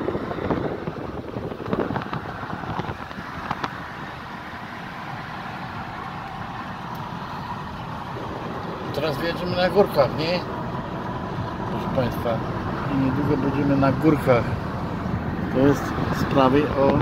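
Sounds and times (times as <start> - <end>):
car road noise from cabin: 0.0 - 17.0.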